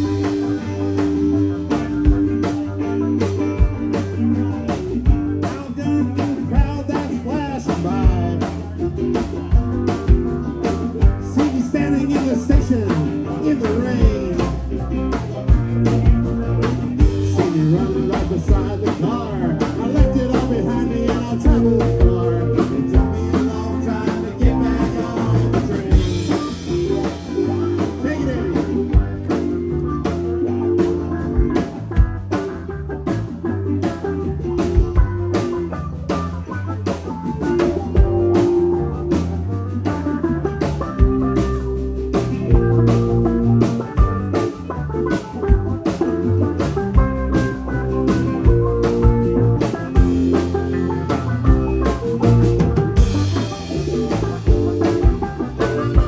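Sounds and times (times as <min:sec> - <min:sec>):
drum kit beat: 0:00.0 - 0:56.0
rock band playing live: 0:00.0 - 0:56.0.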